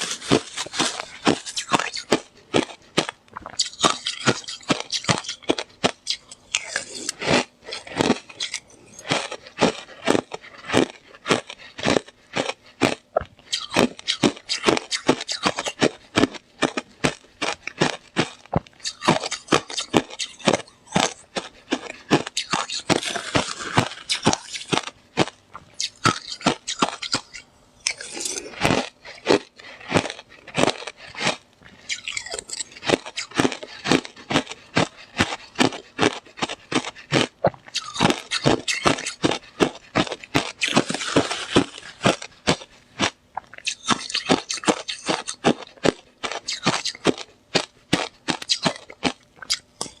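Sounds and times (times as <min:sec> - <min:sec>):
crunchy ice being chewed: 0:00.0 - 0:50.0.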